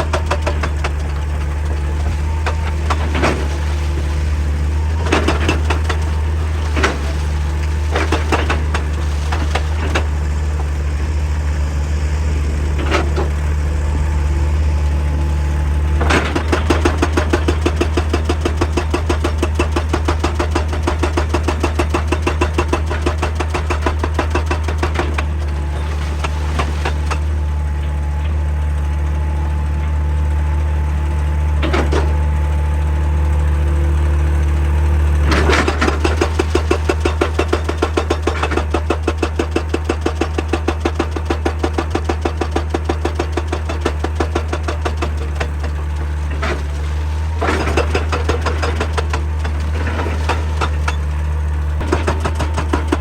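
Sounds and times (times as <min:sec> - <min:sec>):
hydraulic rock breaker hammering: 0:00.0 - 0:33.5, 0:34.4 - 0:53.0
diesel engine running: 0:00.0 - 0:53.0.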